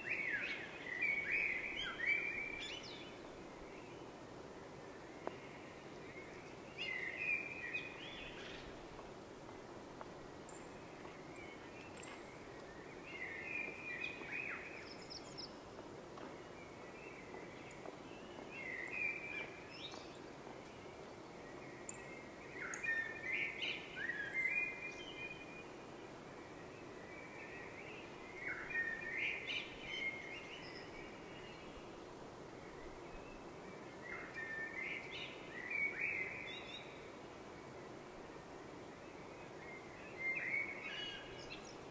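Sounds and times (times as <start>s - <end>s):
low background noise: 0.0s - 41.9s
songbird chirping: 0.0s - 41.9s.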